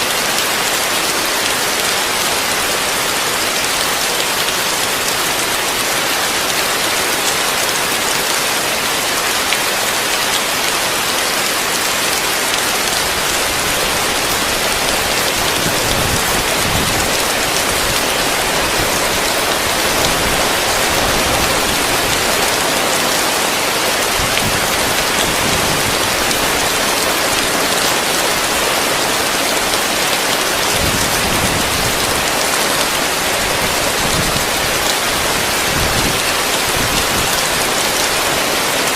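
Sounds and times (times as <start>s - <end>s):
heavy rain drumming on a roof: 0.0s - 38.9s.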